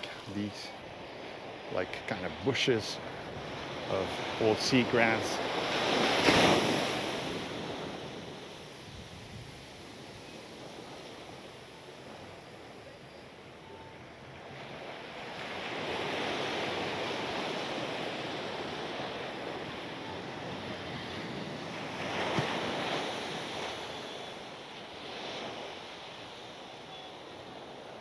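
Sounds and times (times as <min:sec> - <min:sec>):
surf washing onto a beach: 0:00.0 - 0:28.0.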